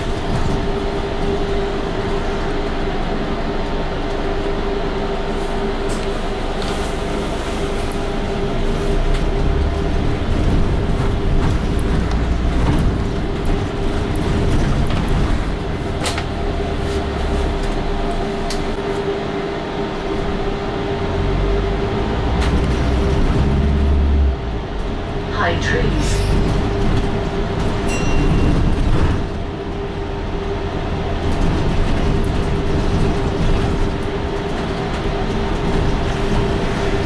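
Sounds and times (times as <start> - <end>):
bus engine and road rumble: 0.0 - 37.0
constant whine: 0.0 - 37.0.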